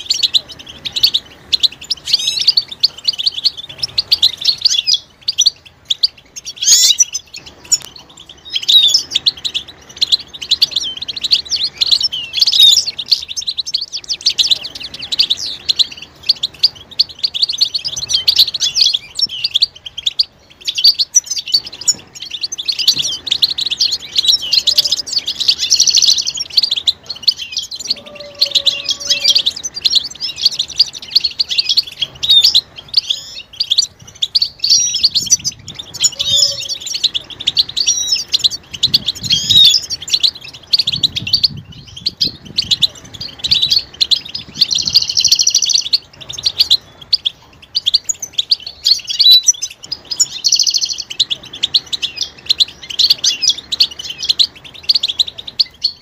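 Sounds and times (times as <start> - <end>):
buzzy bird trills: 0.0 - 56.0
finches chirping in chorus: 0.0 - 56.0.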